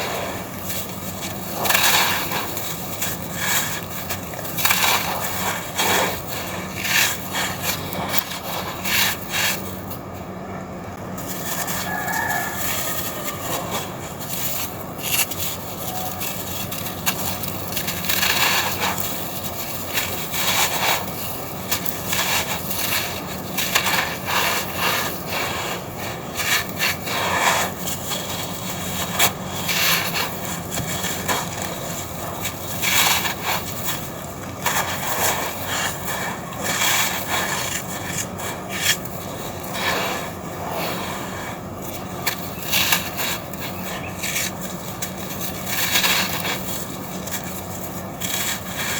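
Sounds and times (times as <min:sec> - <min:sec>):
gritty chunks crunching: 0:00.0 - 0:10.2, 0:11.1 - 0:48.9.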